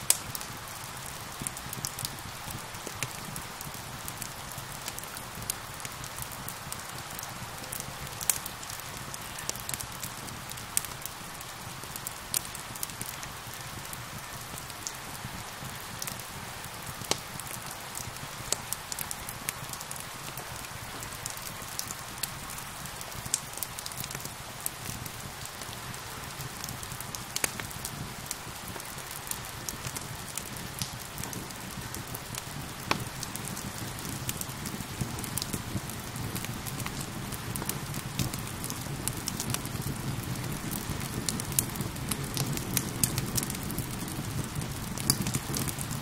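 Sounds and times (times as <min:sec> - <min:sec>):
steady rain falling: 0:00.0 - 0:46.0
wood fire crackling and popping: 0:00.0 - 0:46.0.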